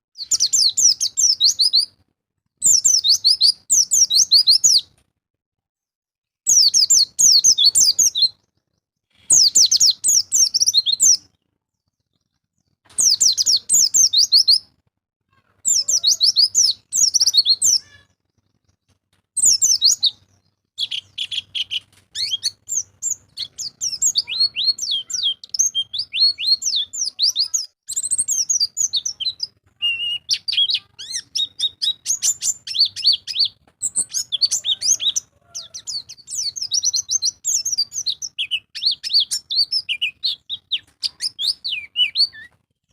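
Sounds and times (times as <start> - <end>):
bird twittering song: 0.2 - 2.0, 2.6 - 4.9, 6.5 - 14.7, 15.6 - 42.6.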